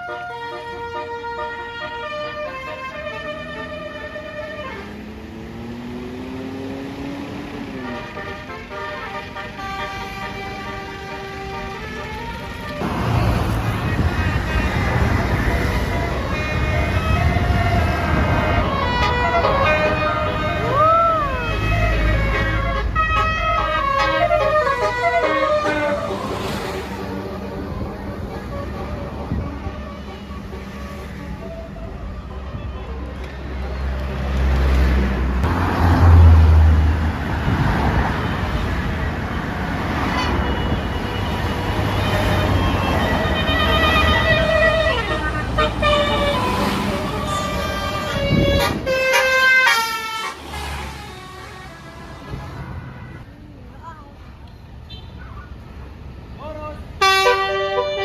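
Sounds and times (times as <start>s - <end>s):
bus horn playing a tune: 0.0s - 5.8s, 6.5s - 33.4s, 38.1s - 53.4s, 57.0s - 58.0s
road traffic noise: 0.0s - 58.0s.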